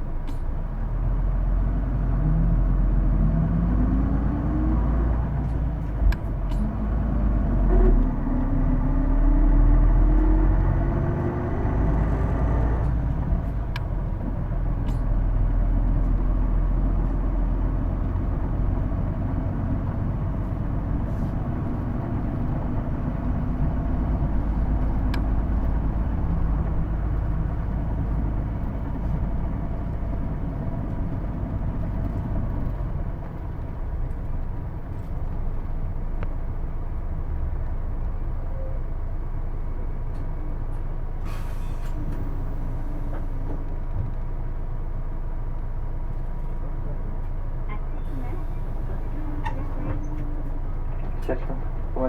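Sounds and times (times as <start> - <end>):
bus diesel engine rumble: 0.0 - 52.0.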